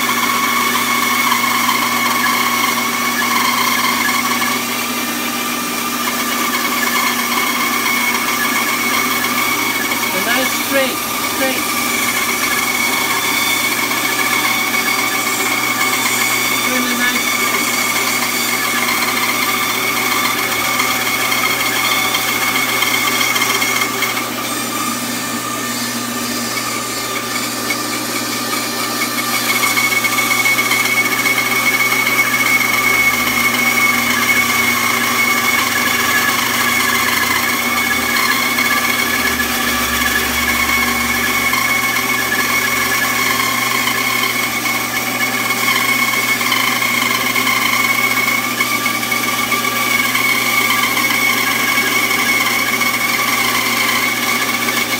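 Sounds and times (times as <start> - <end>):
band saw whining through wood: 0.0 - 54.9.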